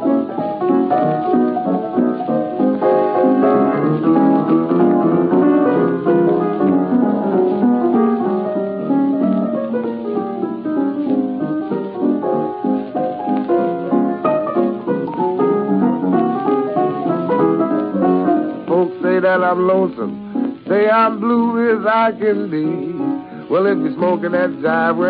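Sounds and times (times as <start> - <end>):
jazz piano run: 0.0 - 25.0.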